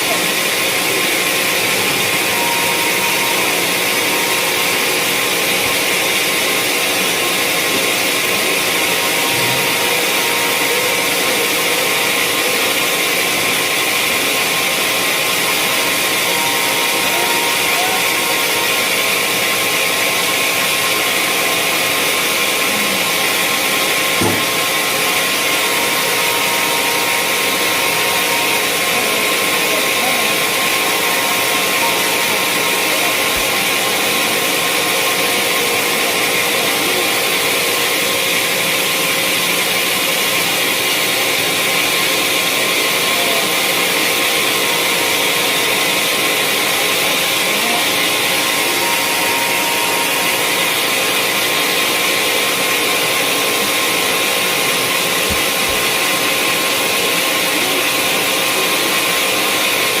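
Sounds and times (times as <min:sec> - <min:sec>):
sawmill saw running: 0:00.0 - 1:00.0.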